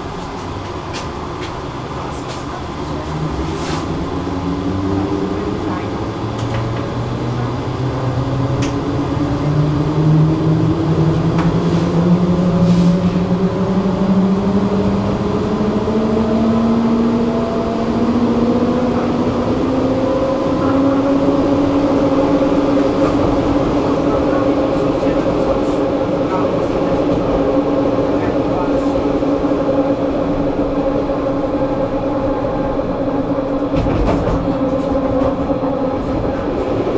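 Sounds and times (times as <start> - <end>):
electric tram drive whine: 0.0 - 36.9
rumble of the ride: 0.0 - 36.9.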